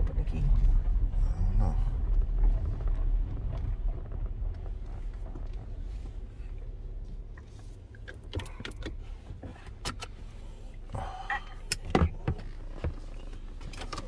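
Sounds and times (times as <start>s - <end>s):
low steady car hum: 0.0s - 14.0s.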